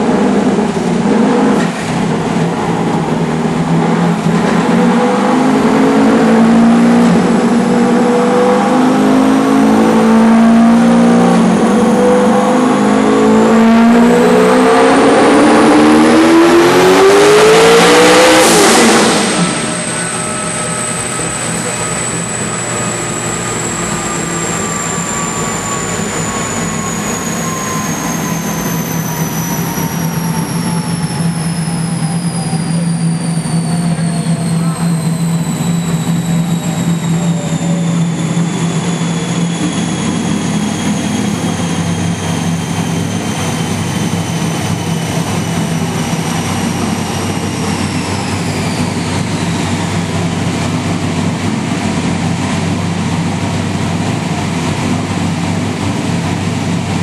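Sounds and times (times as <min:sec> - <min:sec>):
high whines falling in pitch: 0:00.0 - 0:57.0
steady low drone: 0:00.0 - 0:57.0.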